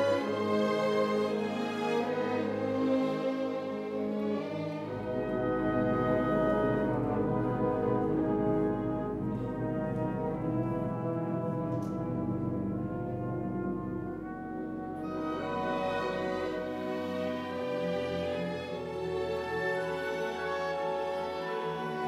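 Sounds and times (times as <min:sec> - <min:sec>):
french horns and brass: 0:00.0 - 0:22.0
orchestra playing slow chords: 0:00.0 - 0:22.0.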